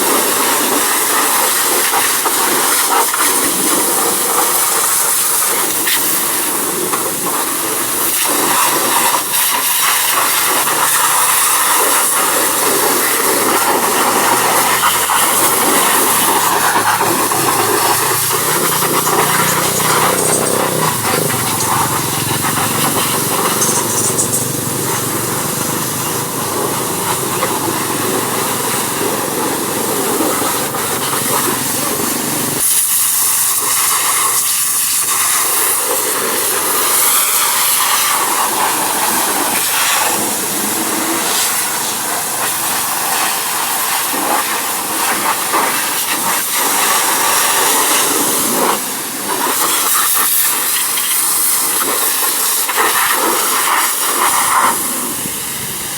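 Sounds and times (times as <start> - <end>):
high-pressure water spray hissing: 0.0 - 55.9.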